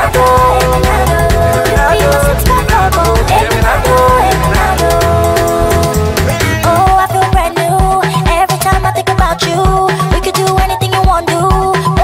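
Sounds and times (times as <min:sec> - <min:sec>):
upbeat dance music: 0:00.0 - 0:12.0.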